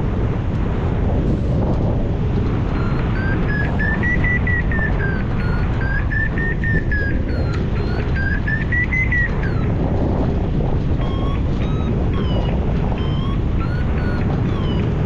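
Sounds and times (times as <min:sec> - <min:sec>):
wind rush on microphone: 0:00.0 - 0:15.0
variometer beeping: 0:02.4 - 0:15.0.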